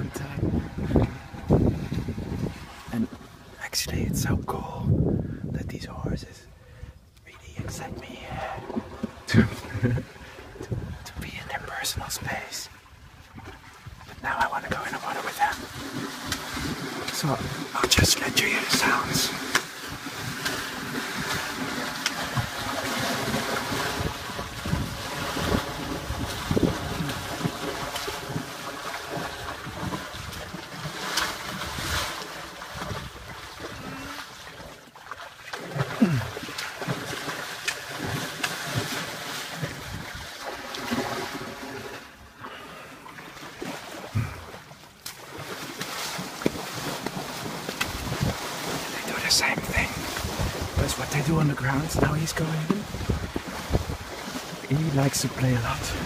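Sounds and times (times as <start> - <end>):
horses splashing in water: 0.0 - 3.6, 7.5 - 11.1, 12.0 - 56.0.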